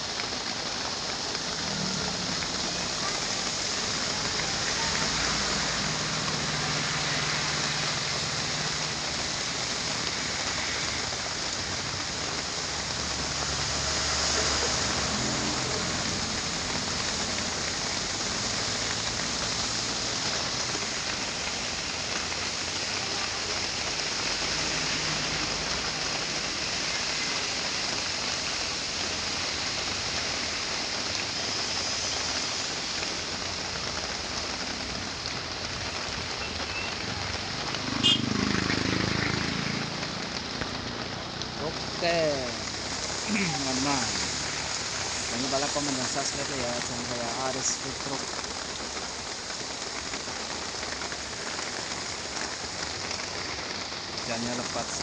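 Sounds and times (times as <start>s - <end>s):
heavy rain on a truck: 0.0s - 55.0s.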